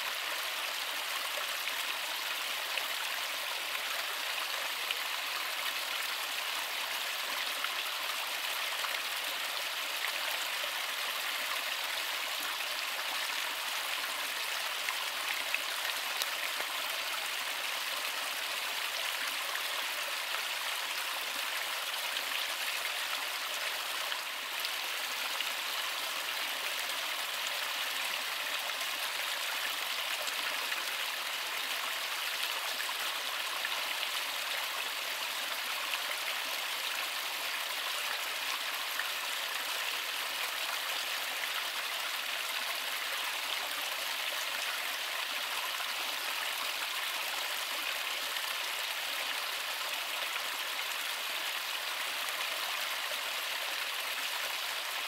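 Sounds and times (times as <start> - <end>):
small stream rushing: 0.0 - 55.0.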